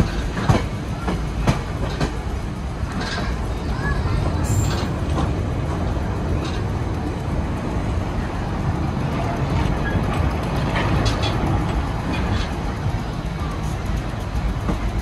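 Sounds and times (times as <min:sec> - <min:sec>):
faint rail clicks: 0:00.0 - 0:15.0
train car rumbling on track: 0:00.0 - 0:15.0.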